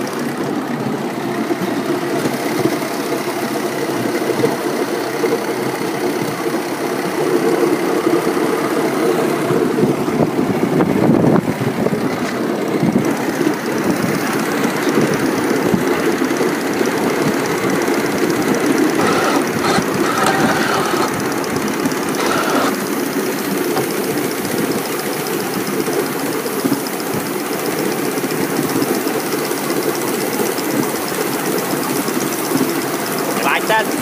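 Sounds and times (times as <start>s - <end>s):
steam locomotive exhaust chuff: 0.0s - 34.0s
wheels running on track: 0.0s - 34.0s.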